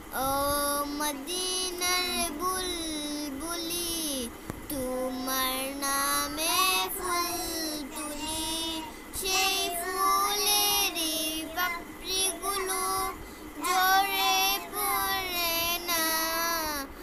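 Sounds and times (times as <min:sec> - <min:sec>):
girl singing solo: 0:00.2 - 0:17.0.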